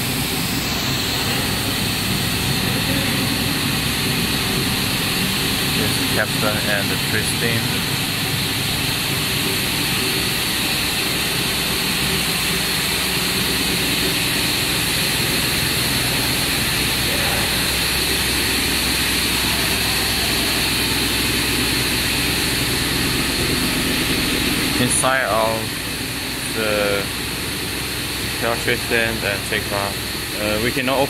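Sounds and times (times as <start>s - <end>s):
cable twisting machine humming: 0.0s - 31.0s.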